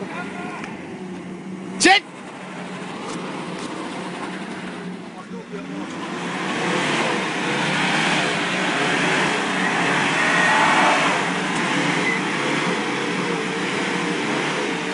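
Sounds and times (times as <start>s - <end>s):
car engine at high revs: 0.0s - 14.9s.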